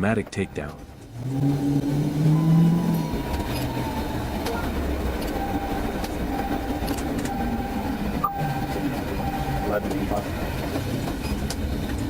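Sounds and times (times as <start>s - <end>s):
vehicle road rumble: 0.0s - 12.0s.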